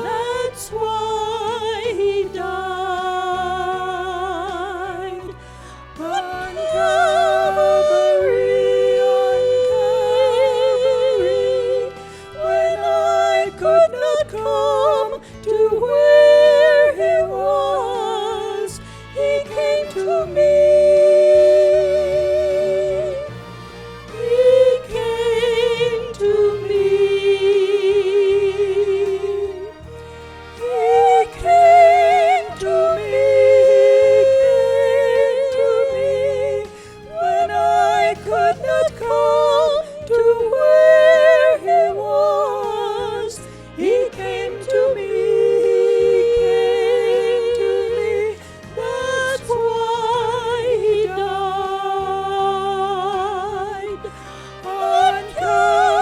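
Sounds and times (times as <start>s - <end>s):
slow gospel music: 0.0s - 56.0s.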